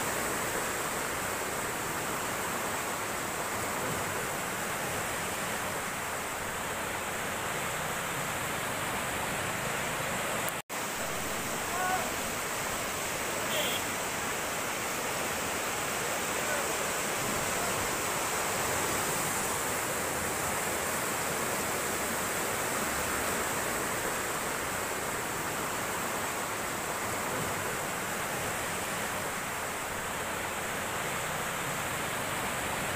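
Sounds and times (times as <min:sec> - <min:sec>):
river rushing: 0:00.0 - 0:32.9.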